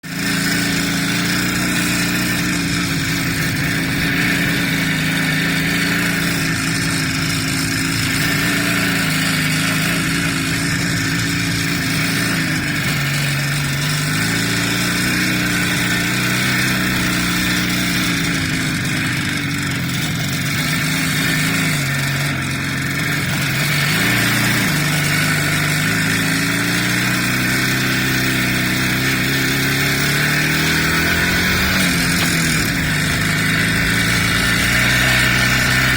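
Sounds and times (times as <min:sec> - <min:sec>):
vehicle engine running: 0:00.0 - 0:35.9.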